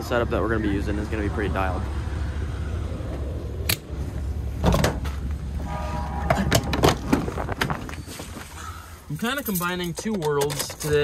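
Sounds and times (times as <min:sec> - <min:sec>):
low steady rumble: 0:00.0 - 0:09.2.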